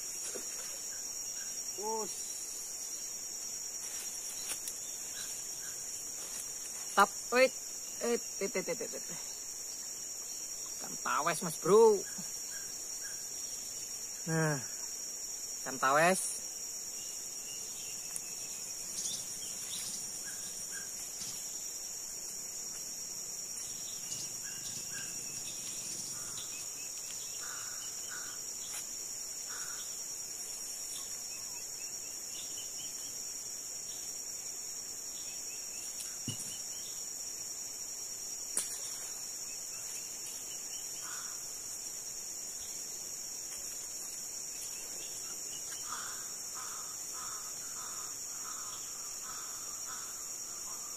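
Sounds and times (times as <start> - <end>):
insect chorus drone: 0.0 - 50.9.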